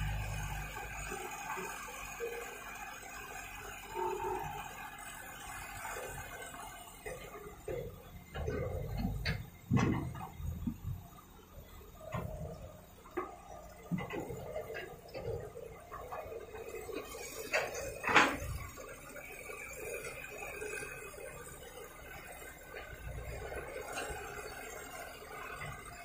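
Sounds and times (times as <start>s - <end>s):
excavator engine hum: 0.0s - 26.0s.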